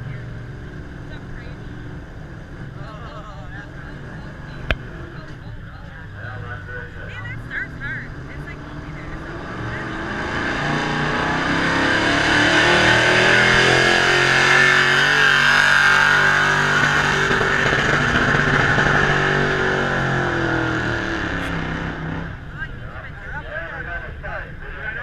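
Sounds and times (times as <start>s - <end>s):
engine running at high revs: 0.0s - 5.6s, 6.2s - 23.4s.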